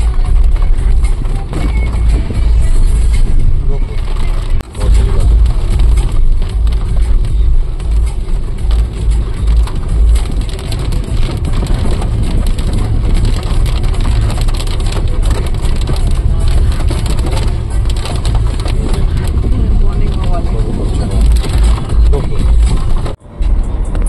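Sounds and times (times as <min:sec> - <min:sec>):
rain and spray hiss: 0:00.0 - 0:23.2
engine and tyre rumble: 0:00.0 - 0:24.0.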